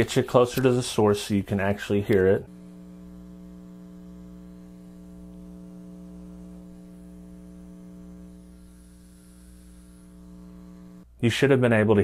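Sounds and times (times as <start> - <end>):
amplifier electrical hum: 0.0 - 12.0.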